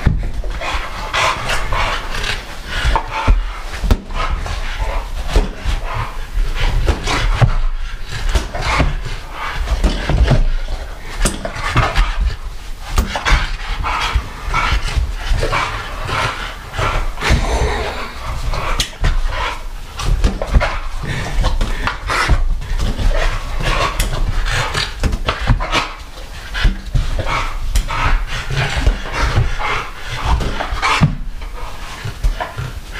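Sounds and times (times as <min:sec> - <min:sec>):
dogs panting hard: 0:00.0 - 0:32.9.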